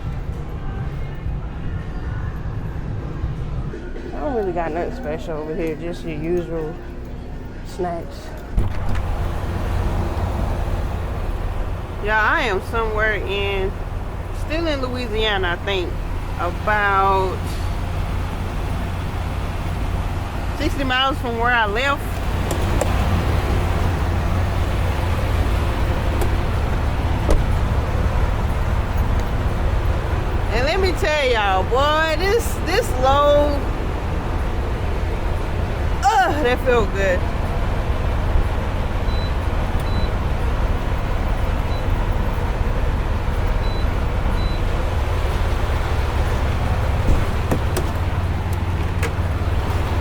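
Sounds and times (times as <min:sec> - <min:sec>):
truck engine drone with road noise: 0:00.0 - 0:50.0.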